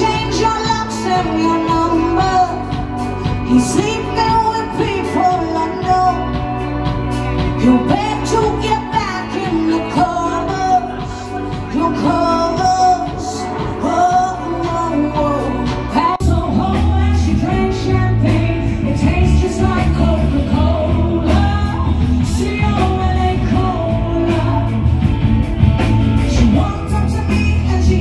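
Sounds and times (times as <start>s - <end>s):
bass: 0.0s - 28.0s
drums: 0.0s - 28.0s
electric guitar: 0.0s - 28.0s
woman singing into microphone: 0.0s - 28.0s.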